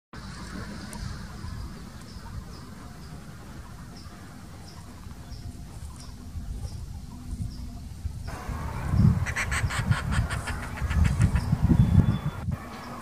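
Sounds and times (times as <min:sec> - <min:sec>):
bird chirping faintly: 0:00.2 - 0:13.0
steady low rumble: 0:00.2 - 0:13.0.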